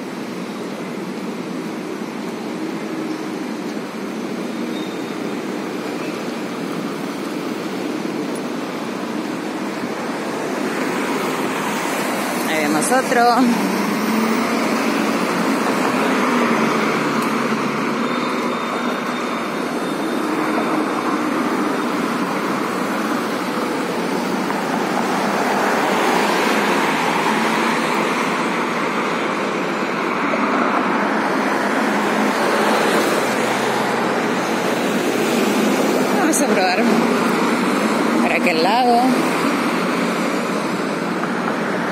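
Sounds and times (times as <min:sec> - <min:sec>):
city road traffic: 0:00.0 - 0:41.9.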